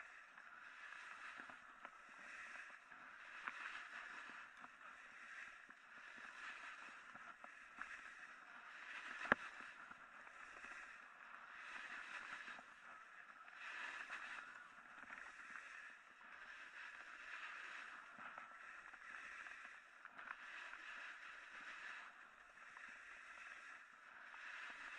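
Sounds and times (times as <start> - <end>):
snowboard carving on snow: 0.0 - 24.9.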